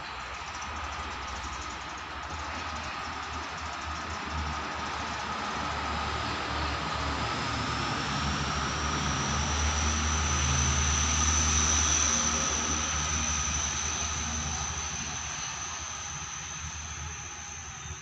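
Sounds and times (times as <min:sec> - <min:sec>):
diesel train engine rumble: 0:00.0 - 0:18.0.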